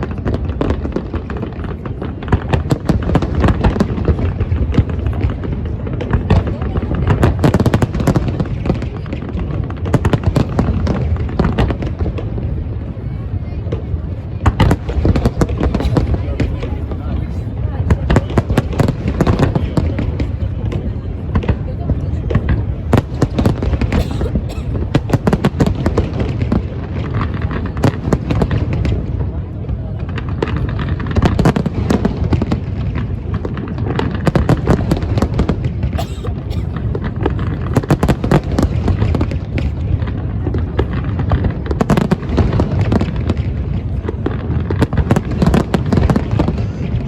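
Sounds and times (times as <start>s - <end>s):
fireworks banging and crackling: 0.0s - 47.0s.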